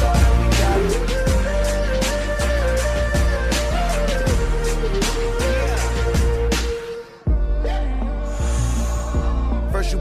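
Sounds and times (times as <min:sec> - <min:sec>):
hip-hop instrumental beat: 0:00.0 - 0:10.0.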